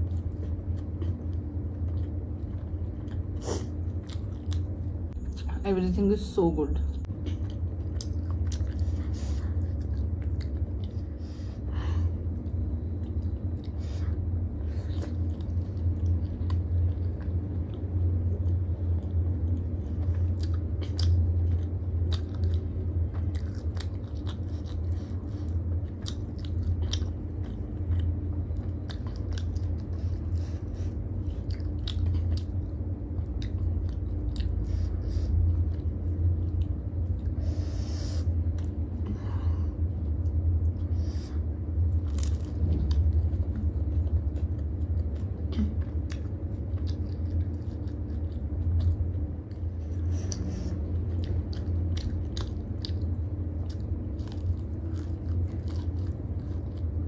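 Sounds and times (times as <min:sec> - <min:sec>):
person chewing food: 0:00.0 - 0:05.2, 0:07.0 - 0:57.0
low hum: 0:00.0 - 0:57.0.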